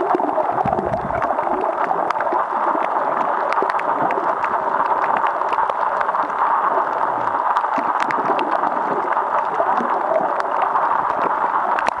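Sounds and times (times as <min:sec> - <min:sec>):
muffled underwater water wash: 0:00.0 - 0:12.0
underwater clicks and crackles: 0:00.0 - 0:12.0.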